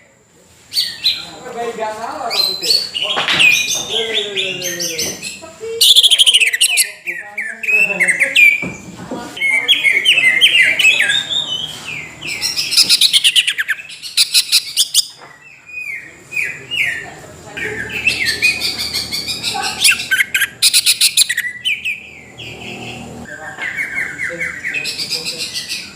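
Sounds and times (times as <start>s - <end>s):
bird singing whistles and trills: 2.3s - 8.8s, 9.4s - 17.0s, 17.6s - 25.9s.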